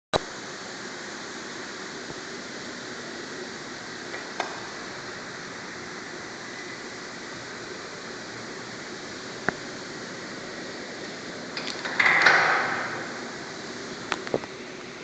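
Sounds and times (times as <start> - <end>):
steady hiss: 0.2 - 15.0.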